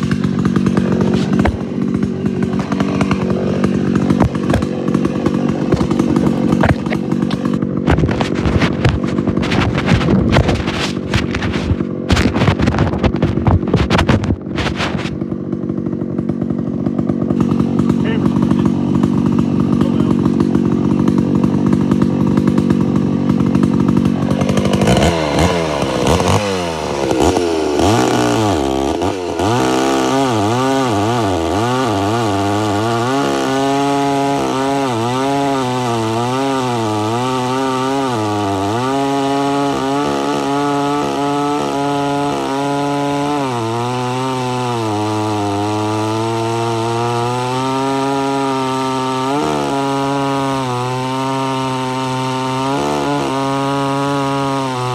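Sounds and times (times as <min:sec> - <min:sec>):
chainsaw cutting through log: 0:00.0 - 0:54.9
chainsaw engine revving: 0:00.0 - 0:54.9.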